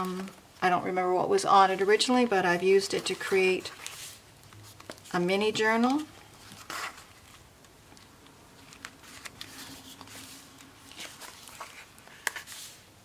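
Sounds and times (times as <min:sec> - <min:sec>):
paper pages rustling: 0:01.6 - 0:13.0.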